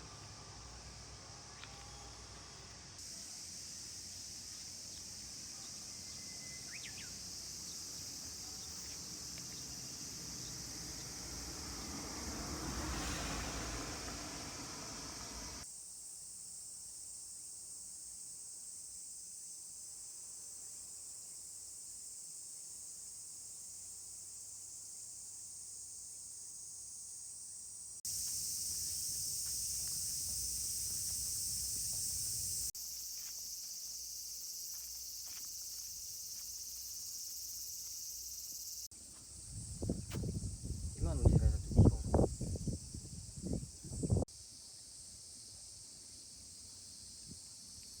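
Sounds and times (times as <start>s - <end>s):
insects chorus shrill hiss: 1.5s - 48.0s.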